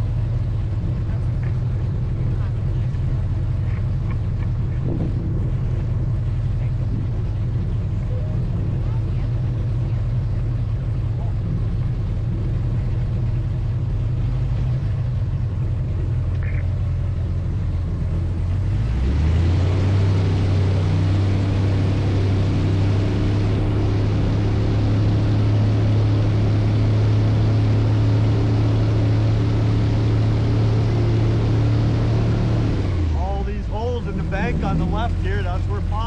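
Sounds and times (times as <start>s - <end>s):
airboat engine revving: 0.0s - 36.0s.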